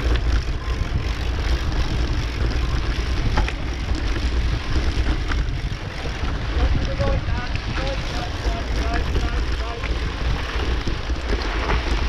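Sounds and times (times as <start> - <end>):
tyres on gravelly dirt: 0.0 - 12.0
wind buffeting microphone: 0.0 - 12.0.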